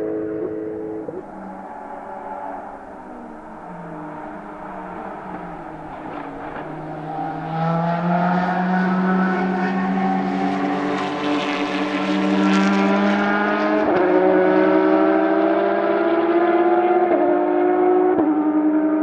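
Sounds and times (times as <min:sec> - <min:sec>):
race car engine accelerating past: 0:00.0 - 0:19.0.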